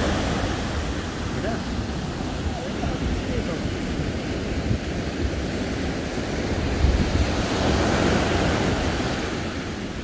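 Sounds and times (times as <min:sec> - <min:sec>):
sea surf breaking on beach: 0:00.0 - 0:10.0
wind buffeting microphone: 0:00.0 - 0:10.0.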